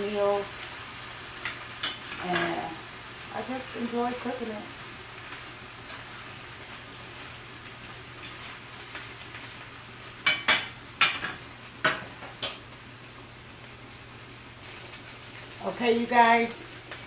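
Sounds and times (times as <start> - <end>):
food sizzling in skillets: 0.0 - 17.0.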